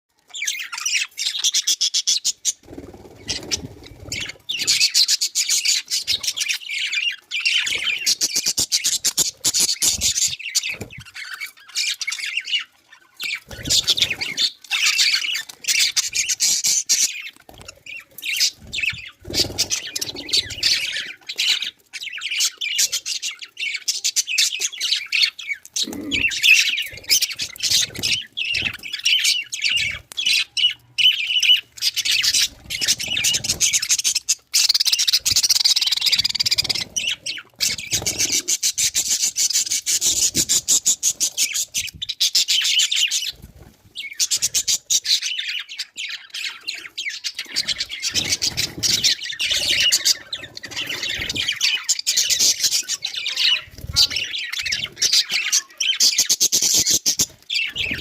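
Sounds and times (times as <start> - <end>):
budgerigars chattering: 0.3 - 43.4, 44.0 - 58.0.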